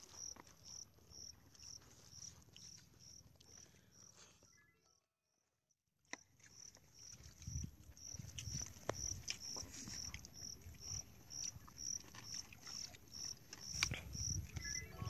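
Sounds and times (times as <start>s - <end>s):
faint insect chirping: 0.1s - 4.6s, 6.5s - 15.0s.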